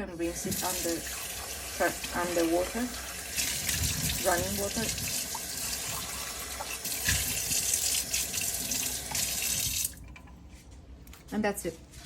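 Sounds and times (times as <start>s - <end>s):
tap water running: 0.2s - 10.4s.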